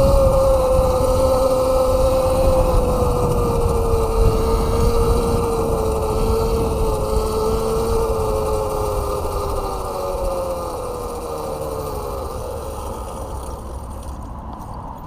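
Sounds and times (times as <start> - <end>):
electric bike motor whining: 0.0 - 15.0
wind and road rumble: 0.0 - 15.0.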